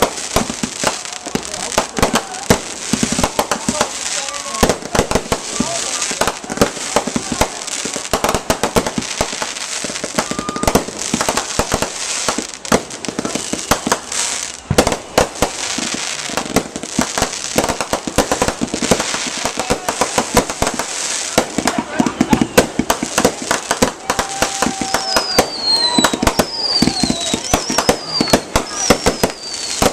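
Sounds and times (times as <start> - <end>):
crackling hiss: 0.0 - 29.9
fireworks bangs: 0.0 - 29.9.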